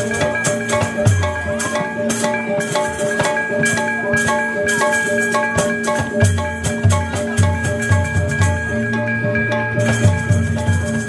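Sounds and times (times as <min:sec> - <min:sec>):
drums: 0:00.0 - 0:11.0
gamelan ensemble playing: 0:00.0 - 0:11.0.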